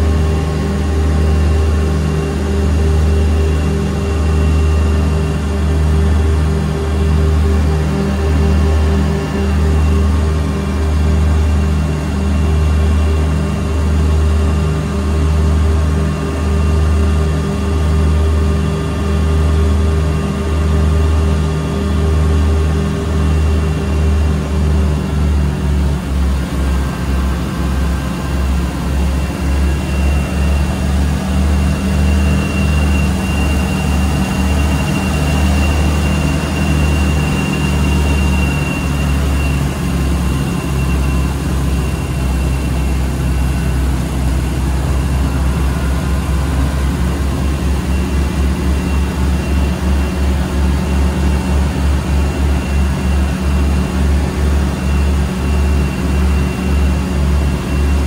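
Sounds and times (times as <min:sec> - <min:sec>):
aircraft engines and propellers: 0:00.0 - 0:58.0
thin high whine: 0:00.0 - 0:58.0.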